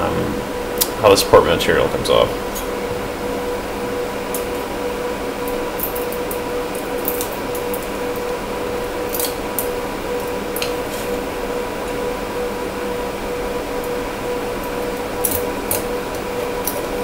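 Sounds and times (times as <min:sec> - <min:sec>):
fan hum: 0:00.0 - 0:17.0.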